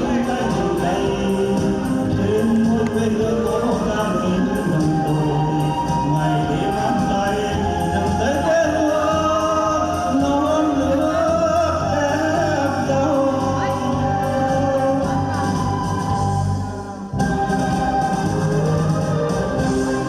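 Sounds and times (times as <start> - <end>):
person singing: 0.0 - 16.1
instrumental accompaniment: 0.0 - 20.0.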